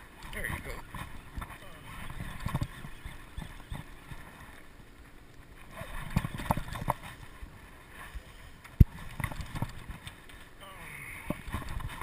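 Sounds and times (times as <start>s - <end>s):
water against boat: 0.0s - 12.0s
wind: 0.0s - 12.0s.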